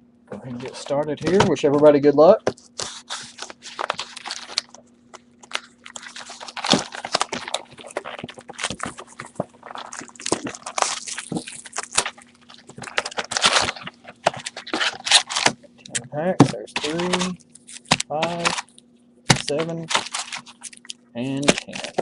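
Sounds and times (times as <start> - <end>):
faint electrical hum: 0.0 - 22.0
plastic wrap crinkling: 2.6 - 22.0.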